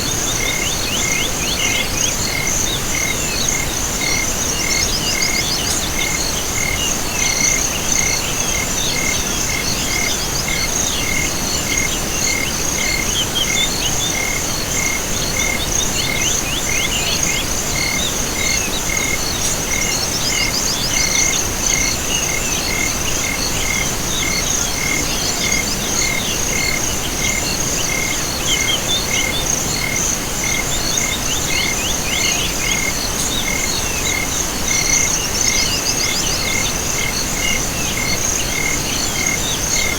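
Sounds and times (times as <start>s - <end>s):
high continuous insect trill: 0.0s - 39.9s
rapid cricket chirping: 0.0s - 39.9s.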